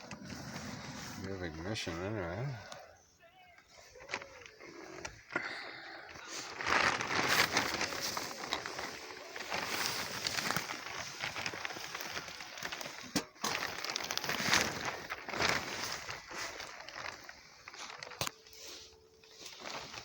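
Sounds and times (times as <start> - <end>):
paper crinkling and rustling: 0.0 - 2.9, 3.5 - 20.0.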